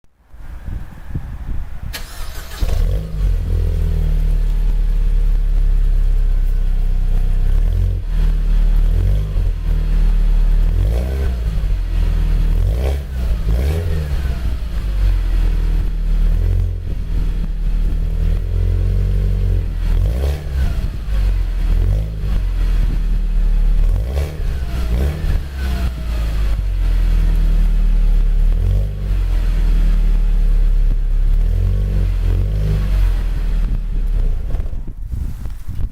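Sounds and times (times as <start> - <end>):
car engine starting and idling: 0.4 - 35.9
engine throttle blips: 0.4 - 35.9.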